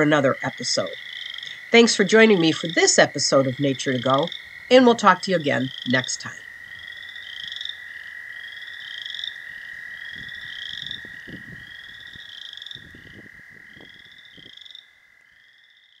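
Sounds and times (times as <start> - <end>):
frogs trilled creaking calls: 0.0 - 16.0
high hum of many frogs: 0.0 - 16.0.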